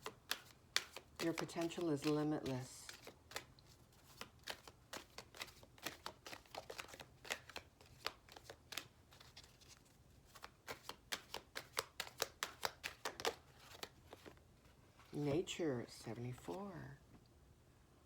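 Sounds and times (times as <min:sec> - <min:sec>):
cards being shuffled: 0:00.0 - 0:15.2.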